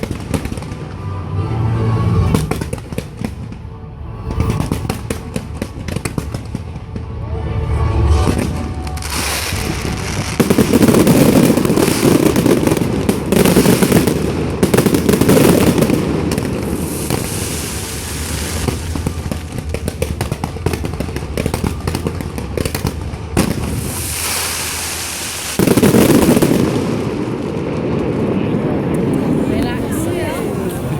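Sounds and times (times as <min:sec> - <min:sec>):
fireworks bangs and crackling: 0:00.0 - 0:01.2, 0:02.2 - 0:03.7, 0:04.3 - 0:07.3, 0:08.2 - 0:30.9.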